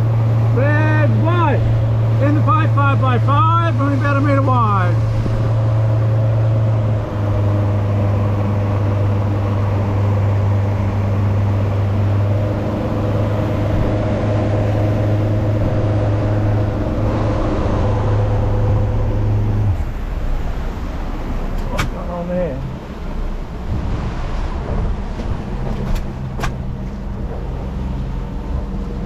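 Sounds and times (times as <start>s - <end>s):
outboard motor running: 0.0s - 29.0s
water rushing: 0.0s - 29.0s
wind against the hull: 0.0s - 29.0s.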